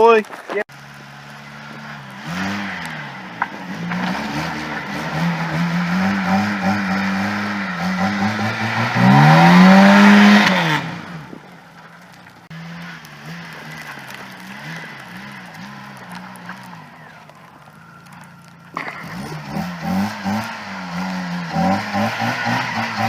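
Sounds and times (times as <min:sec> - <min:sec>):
wheels spinning on snow: 0:00.0 - 0:23.0
car engine revving: 0:00.7 - 0:23.0.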